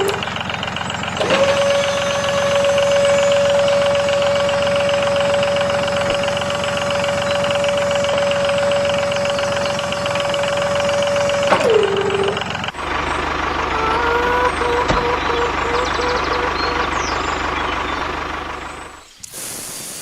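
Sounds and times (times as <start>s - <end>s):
small motor whining: 0.0s - 0.5s, 1.1s - 19.2s
lower running sound: 0.0s - 19.2s.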